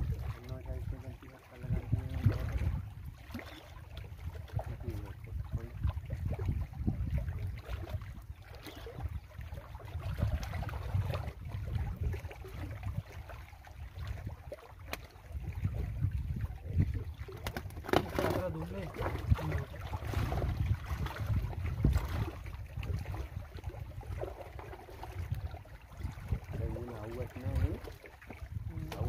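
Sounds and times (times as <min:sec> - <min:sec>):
waves lapping against rocks: 0:00.0 - 0:29.0
wind rumbling on microphone: 0:00.0 - 0:29.0.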